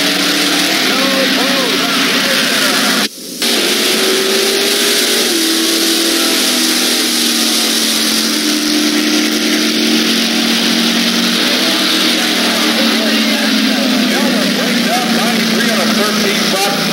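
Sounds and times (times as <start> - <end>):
racing car engines at full throttle: 0.0 - 16.9.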